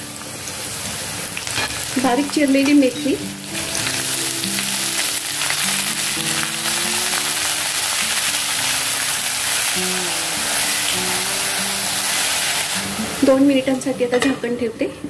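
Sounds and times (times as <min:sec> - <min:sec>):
leaves sizzling in hot oil: 0:00.0 - 0:14.2
background music with held notes: 0:00.0 - 0:15.0.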